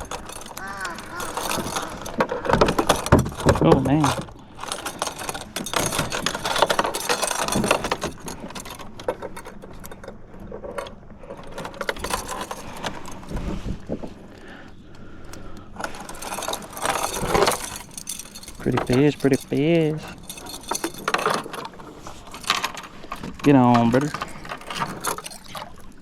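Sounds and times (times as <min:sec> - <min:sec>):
fishing tackle rattling: 0:00.0 - 0:26.0.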